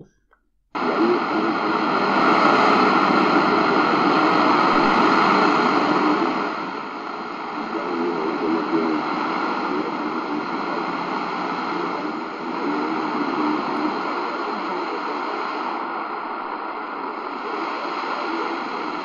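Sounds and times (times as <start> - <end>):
radio static and hiss: 0.8 - 19.0.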